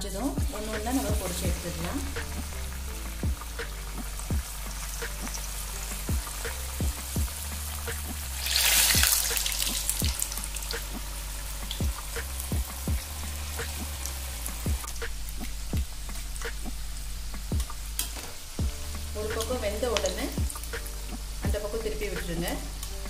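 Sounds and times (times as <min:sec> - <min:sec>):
food deep-frying in oil: 0:00.0 - 0:23.0.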